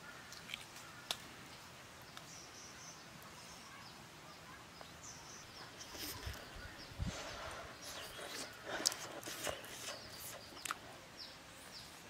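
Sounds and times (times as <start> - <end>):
faint high bird chirps: 2.1 - 12.0.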